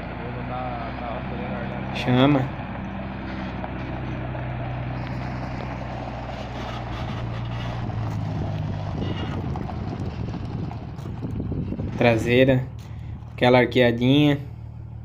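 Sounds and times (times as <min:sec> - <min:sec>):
diesel truck engine pulling away: 0:00.0 - 0:15.0.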